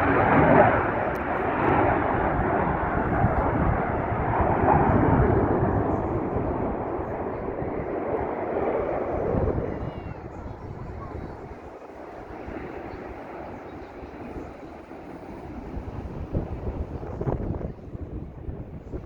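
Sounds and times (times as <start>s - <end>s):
airplane flying past: 0.0s - 19.0s.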